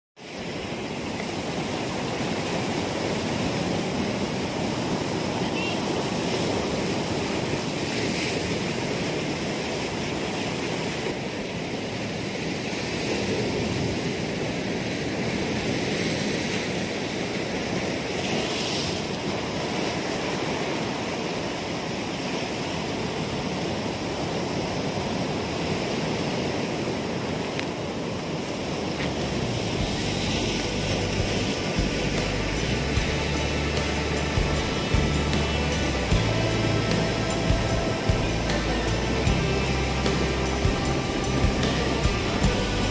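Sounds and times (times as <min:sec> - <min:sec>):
surf washing onto beach: 0:00.2 - 0:42.9.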